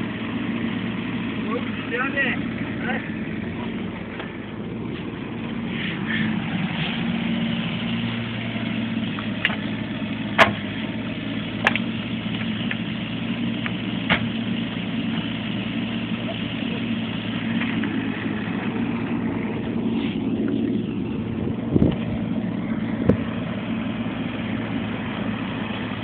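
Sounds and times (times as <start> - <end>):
mini excavator engine running: 0.0 - 26.0.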